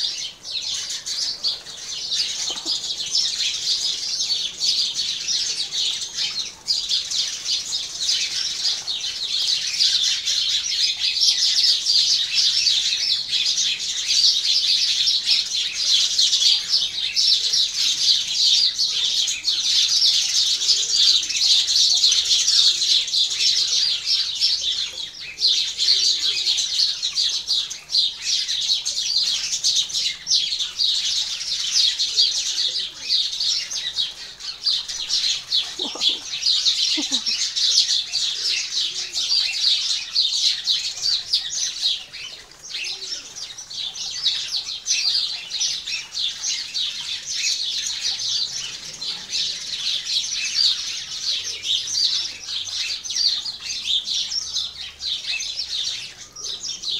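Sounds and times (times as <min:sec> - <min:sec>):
sparrows chirping: 0:00.0 - 0:56.9.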